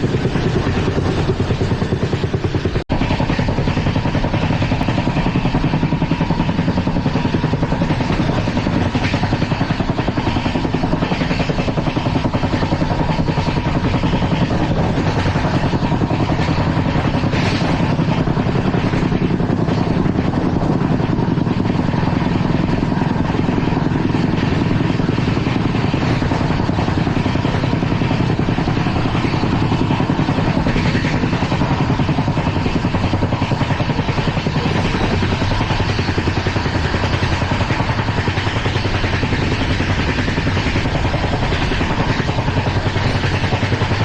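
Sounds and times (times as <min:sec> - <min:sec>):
train coach rumbling at speed: 0:00.0 - 0:44.0
wheels rattling on rail: 0:00.0 - 0:44.0.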